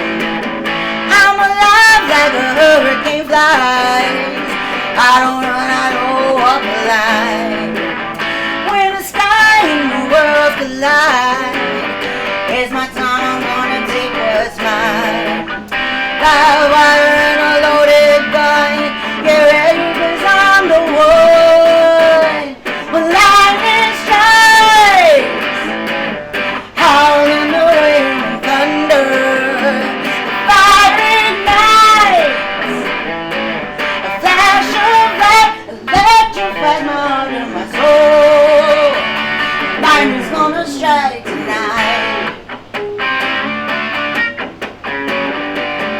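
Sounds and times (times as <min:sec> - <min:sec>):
lead guitar bending notes: 0:00.0 - 0:45.9
strummed guitar: 0:00.0 - 0:45.9.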